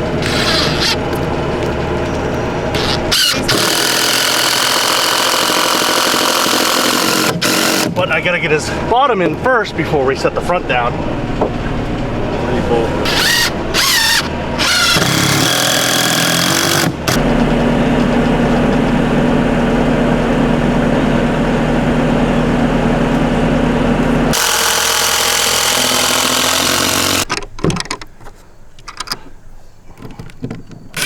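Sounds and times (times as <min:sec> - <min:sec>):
engine running: 0:00.0 - 0:27.3.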